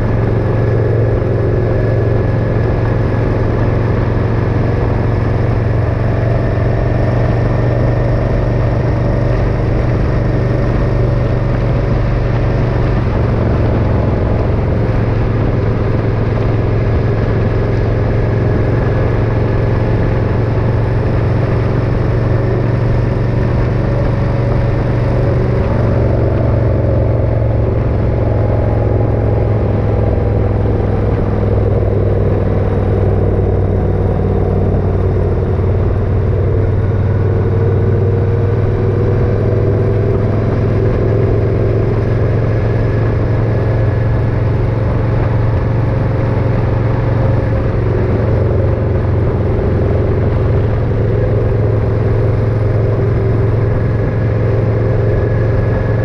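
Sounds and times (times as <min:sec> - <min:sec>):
motorcycle engine running: 0:00.0 - 0:56.0
steady rushing noise: 0:00.0 - 0:56.0.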